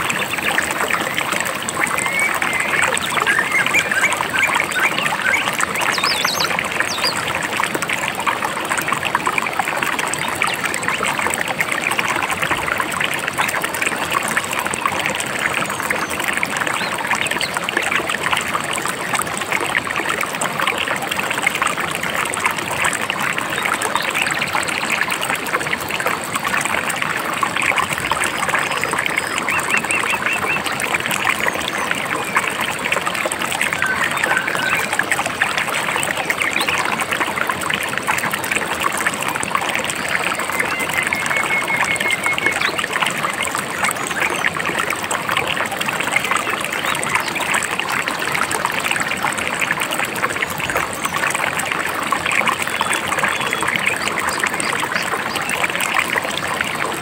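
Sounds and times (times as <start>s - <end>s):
babbling river: 0.0s - 57.0s.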